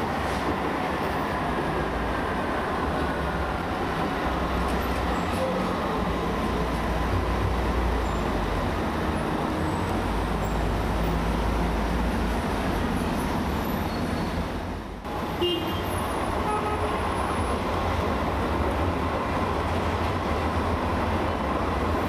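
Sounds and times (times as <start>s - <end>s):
street traffic noise: 0.0s - 22.0s
tram rumbling past: 0.0s - 22.0s.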